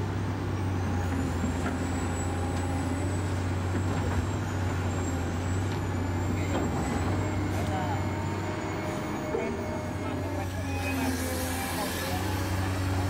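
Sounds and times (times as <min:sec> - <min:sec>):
model machines humming and whining: 0:00.1 - 0:13.0.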